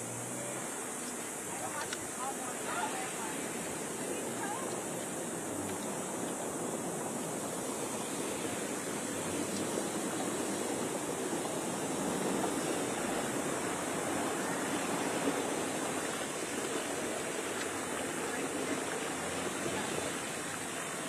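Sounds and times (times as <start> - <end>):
car driving through floodwater: 0.0 - 21.0
rushing water: 0.0 - 21.0
wind: 0.0 - 21.0.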